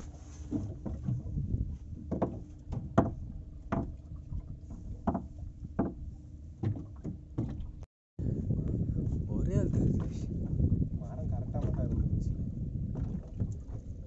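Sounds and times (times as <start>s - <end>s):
knocks and thuds on boat: 0.0s - 7.9s, 8.6s - 14.0s.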